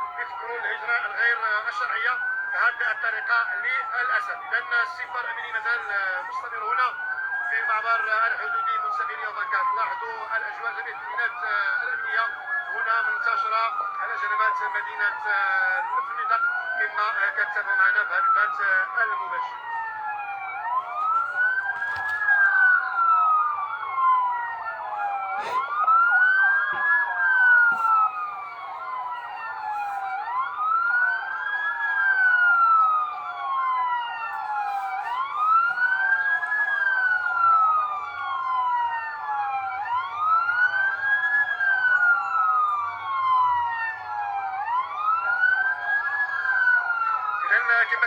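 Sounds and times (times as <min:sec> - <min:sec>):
police siren wailing: 0:00.0 - 0:48.0
second siren warbling: 0:00.0 - 0:48.0.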